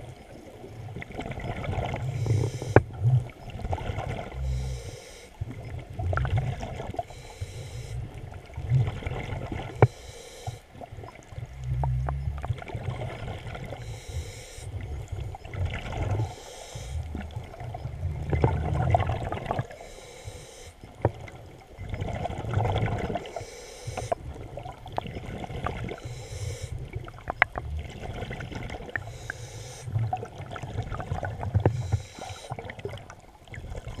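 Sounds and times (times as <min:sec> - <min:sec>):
water sloshing around a boat: 0:00.0 - 0:34.0.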